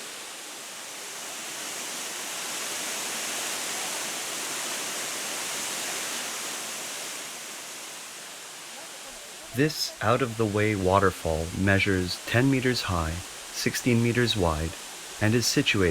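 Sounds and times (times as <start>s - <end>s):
waterfall hissing: 0.0s - 15.9s.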